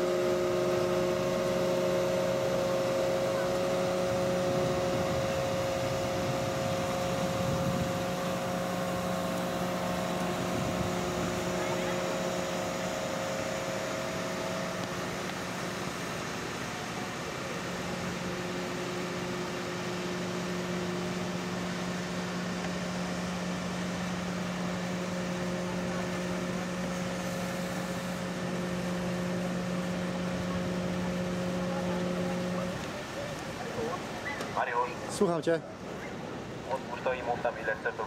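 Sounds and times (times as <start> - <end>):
drone propellers whirring: 0.0 - 32.8.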